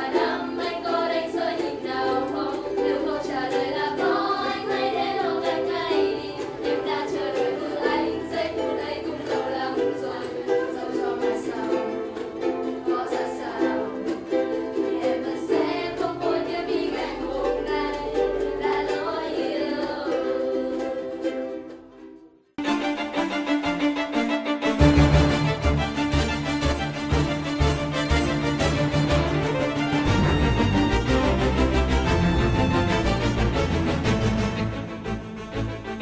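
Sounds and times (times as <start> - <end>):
ukulele playing a tune: 0.0 - 36.0.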